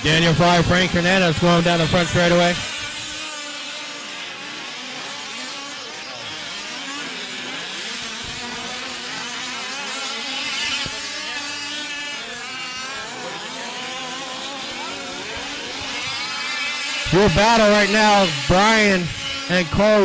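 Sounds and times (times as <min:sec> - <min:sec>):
small two-stroke engines revving: 0:00.0 - 0:20.0.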